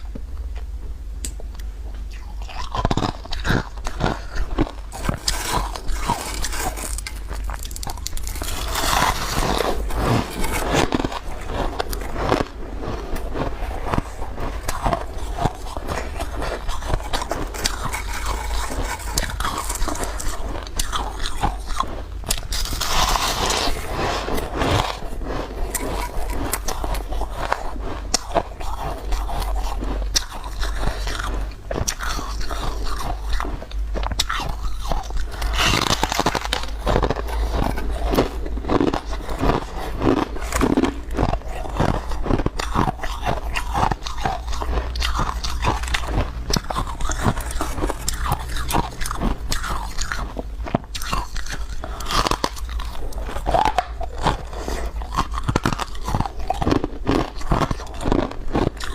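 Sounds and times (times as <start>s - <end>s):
shaved ice being chewed: 1.4s - 58.9s.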